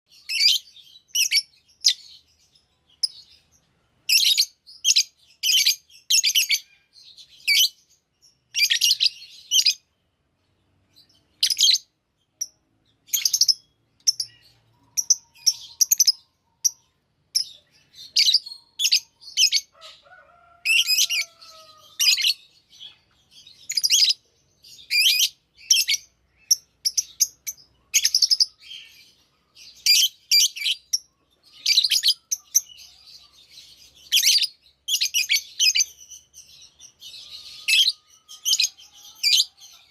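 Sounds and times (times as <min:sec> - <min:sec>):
lovebirds chirping: 0:00.1 - 0:39.9.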